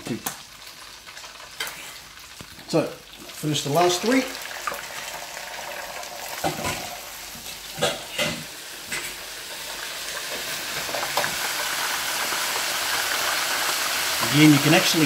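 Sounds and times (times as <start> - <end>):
oil sizzling in deep fryer: 0.0 - 15.0.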